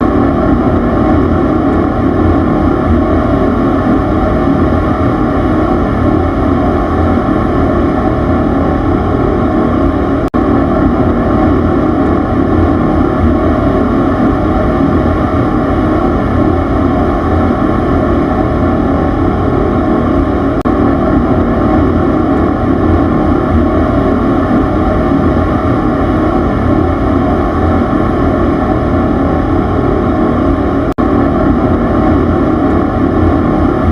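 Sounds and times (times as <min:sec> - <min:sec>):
loud machine rumble: 0:00.0 - 0:33.9.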